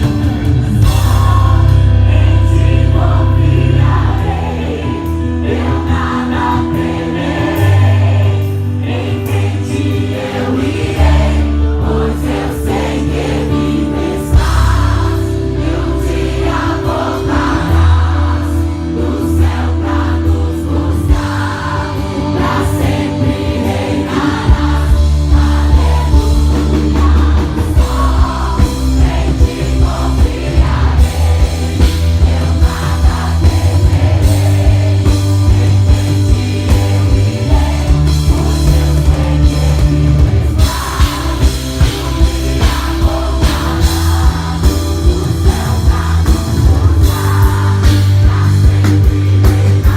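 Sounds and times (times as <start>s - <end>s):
gospel band playing: 0.0s - 49.9s
voices singing: 0.0s - 49.9s.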